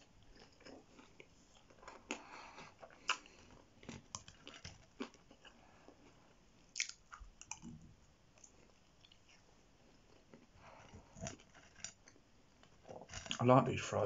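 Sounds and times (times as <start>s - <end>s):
mouth chewing food: 0.0s - 13.4s.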